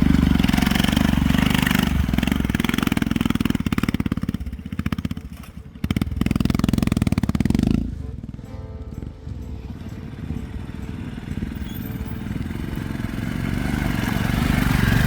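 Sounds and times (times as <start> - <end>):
motorcycle engine at low revs: 0.0 - 8.4, 9.0 - 15.0.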